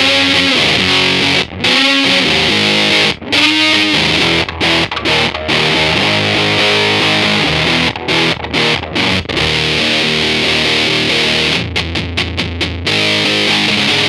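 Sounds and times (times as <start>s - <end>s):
fuzzed electric guitar chords: 0.0s - 14.0s.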